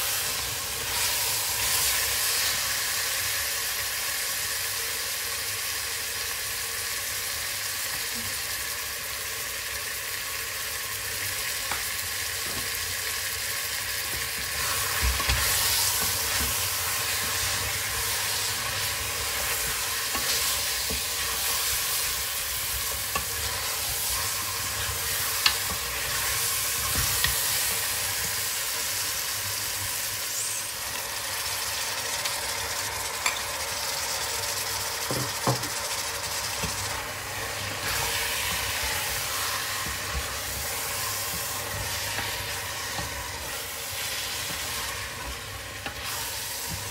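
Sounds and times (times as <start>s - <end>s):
meat and onions sizzling in a pot: 0.0s - 46.9s.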